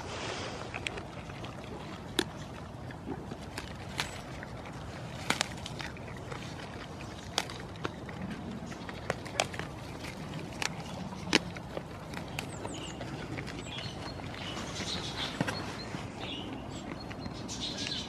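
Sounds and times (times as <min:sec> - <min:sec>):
goat chewing leaves: 0:00.0 - 0:18.0
low steady background noise: 0:00.0 - 0:18.0.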